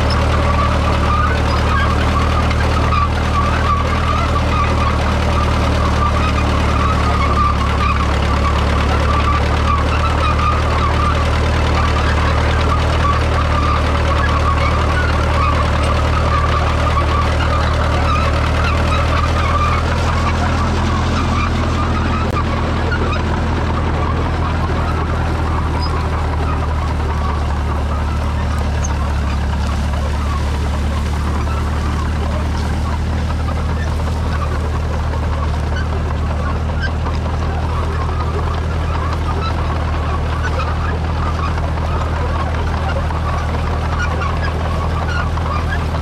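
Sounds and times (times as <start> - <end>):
crawler tractor engine under load: 0.0 - 46.0
plough dragging through ground: 0.0 - 46.0.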